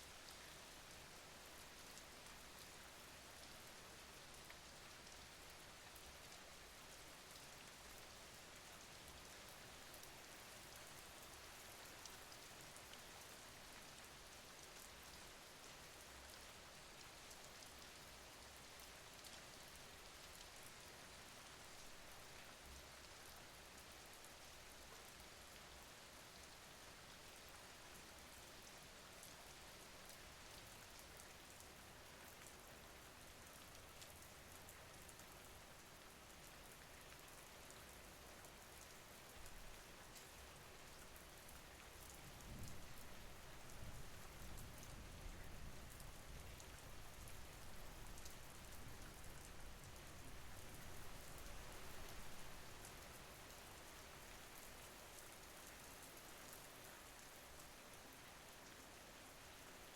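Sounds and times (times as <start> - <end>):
faint rain hiss: 0.0 - 59.9.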